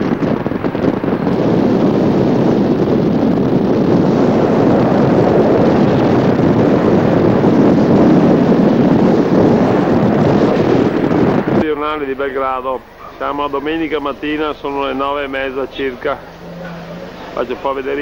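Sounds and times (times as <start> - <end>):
wind buffeting microphone: 0.0 - 11.7, 12.8 - 18.0.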